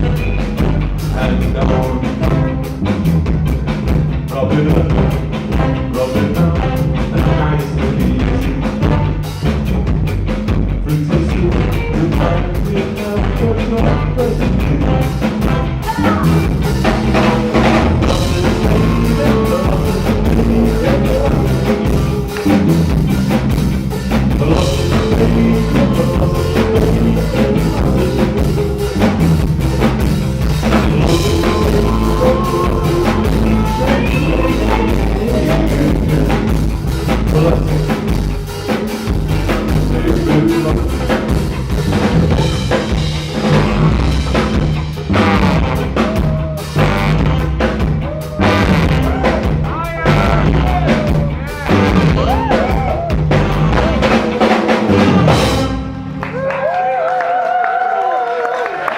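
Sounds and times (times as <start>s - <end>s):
drum kit and bass beat: 0.0s - 56.5s
live ska band playing: 0.0s - 56.9s.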